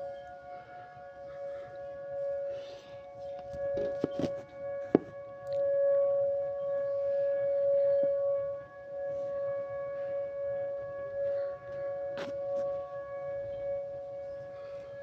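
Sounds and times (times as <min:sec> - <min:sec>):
tornado warning siren: 0:00.0 - 0:15.0.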